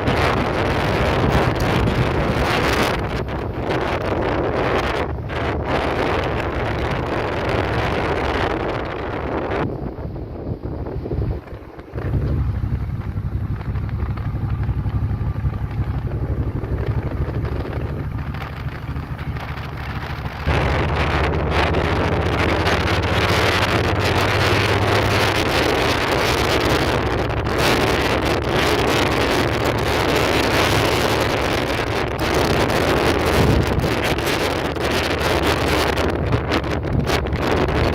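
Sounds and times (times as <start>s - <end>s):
motorcycle engine cruising: 0.0s - 37.9s
wind buffeting microphone: 0.0s - 37.9s.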